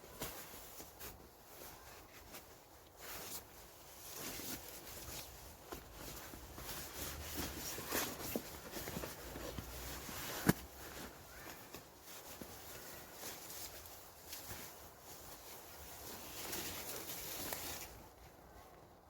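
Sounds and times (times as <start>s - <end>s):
rustling and handling gear: 0.0s - 19.0s.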